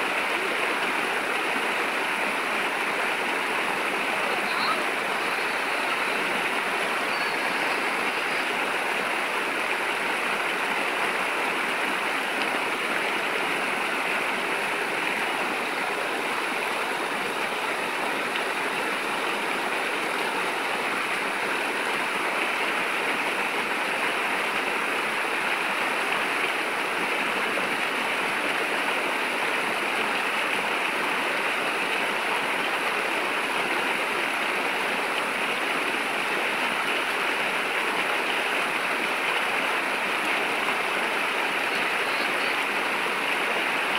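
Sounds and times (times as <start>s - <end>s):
stream running over rocks: 0.0s - 43.9s
water splashing in small cascade: 0.0s - 43.9s.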